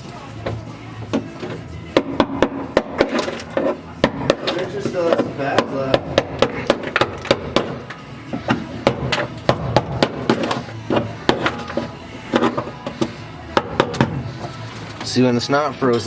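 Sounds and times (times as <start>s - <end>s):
chisel striking metal floor: 0.4s - 14.3s.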